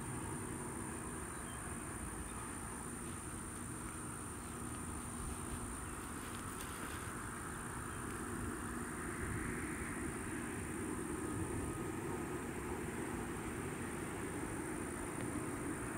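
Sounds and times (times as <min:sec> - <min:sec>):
helicopter idling with whine: 0:00.0 - 0:15.9.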